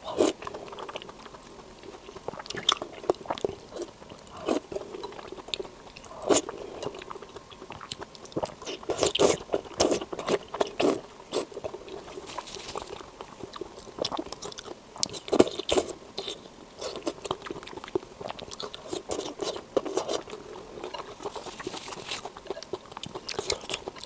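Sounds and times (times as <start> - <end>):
mouth chewing and biting food: 0.0 - 24.0.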